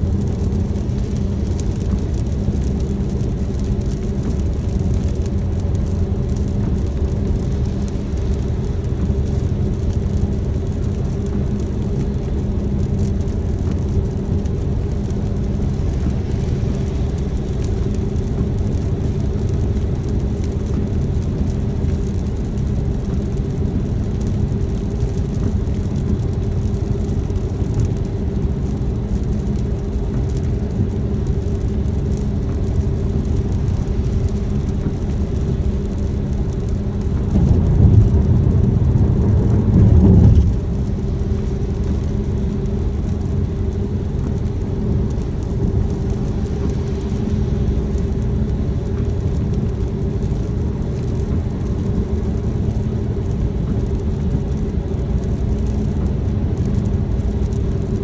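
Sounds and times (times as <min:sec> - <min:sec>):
car engine and road noise: 0:00.0 - 0:58.0
rain ticking on car: 0:00.0 - 0:58.0.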